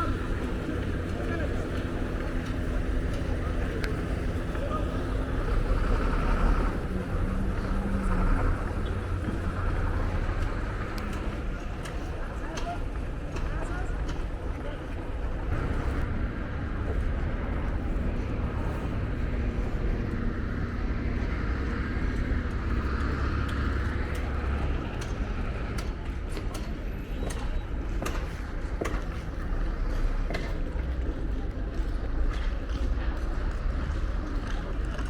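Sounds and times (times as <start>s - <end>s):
deep rumble: 0.0s - 35.0s.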